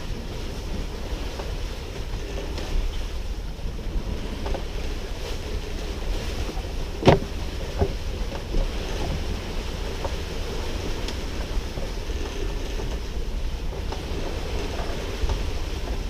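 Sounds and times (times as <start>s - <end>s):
water noise: 0.0s - 16.0s
wind rumbling on microphone: 0.0s - 16.0s.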